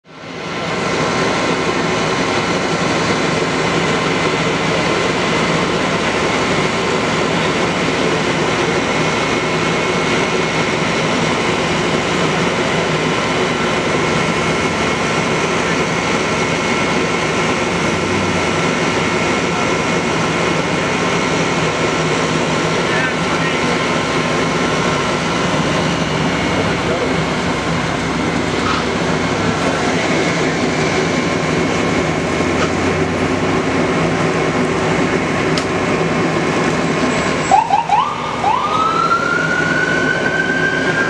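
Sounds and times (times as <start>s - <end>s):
vehicle engines idling: 0.1s - 41.0s.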